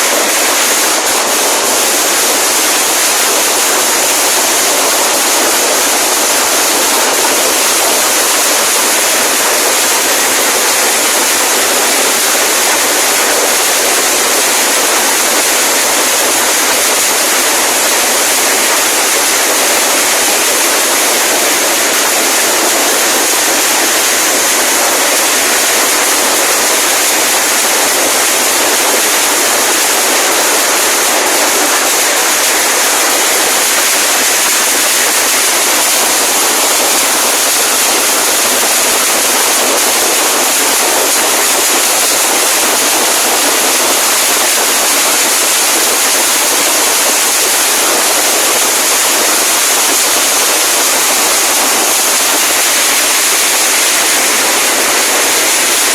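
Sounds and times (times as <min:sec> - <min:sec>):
firecrackers crackling: 0:00.0 - 0:55.9.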